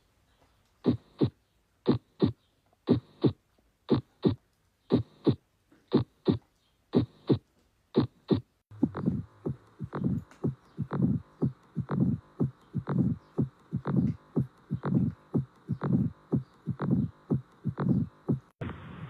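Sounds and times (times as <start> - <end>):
heartbeat through stethoscope: 0.8 - 7.4, 8.0 - 18.9.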